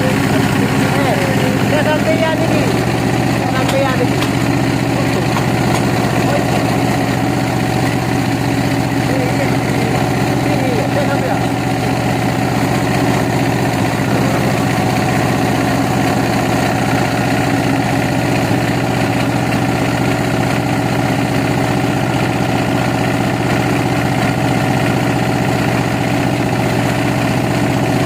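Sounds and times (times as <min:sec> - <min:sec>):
engine idling hum: 0:00.0 - 0:28.0.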